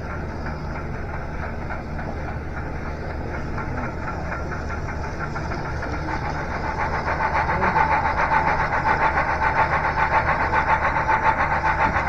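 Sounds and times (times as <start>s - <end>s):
model train humming and clicking: 0.0s - 12.0s.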